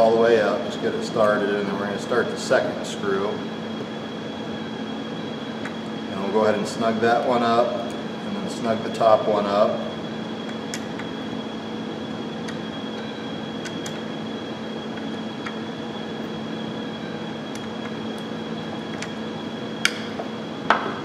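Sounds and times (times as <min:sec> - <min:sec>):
fan-like hum: 0:00.0 - 0:21.0.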